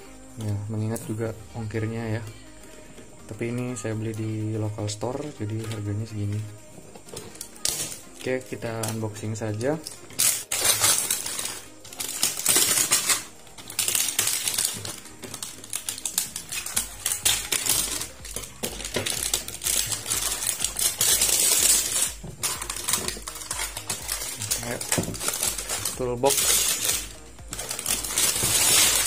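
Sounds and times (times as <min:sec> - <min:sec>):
plastic film crackling: 0:00.0 - 0:29.0.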